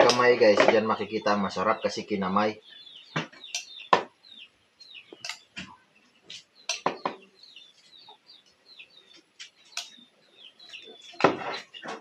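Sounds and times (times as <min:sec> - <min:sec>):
chickens clucking: 0:00.0 - 0:12.0
faint high chirping: 0:00.0 - 0:12.0.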